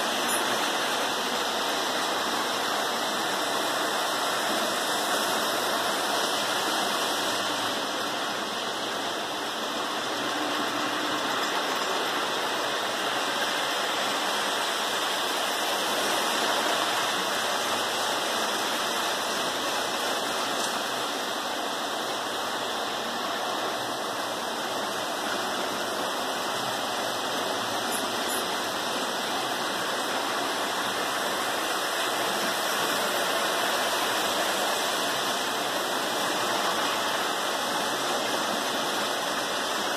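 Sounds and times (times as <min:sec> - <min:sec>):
model train wheels on metal track: 0:00.0 - 0:19.6, 0:20.2 - 0:39.9.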